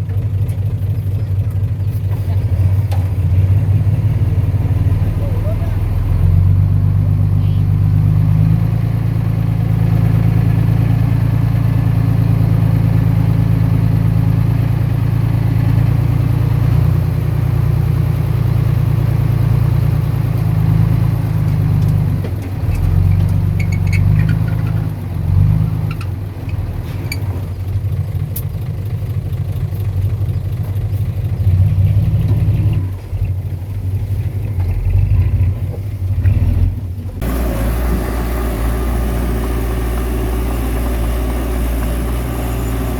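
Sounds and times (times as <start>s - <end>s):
heavy diesel engine droning: 0.0s - 42.9s.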